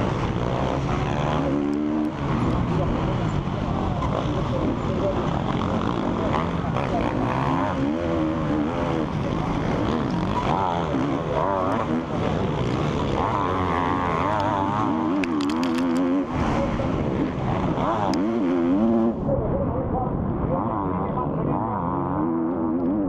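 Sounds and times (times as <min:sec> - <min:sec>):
motocross bike engine revving: 0:00.0 - 0:19.4, 0:20.5 - 0:23.0.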